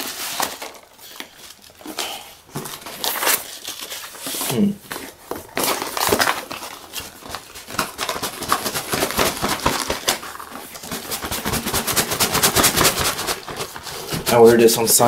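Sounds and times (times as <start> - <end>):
cardboard and packing paper rustling: 0.0 - 15.0.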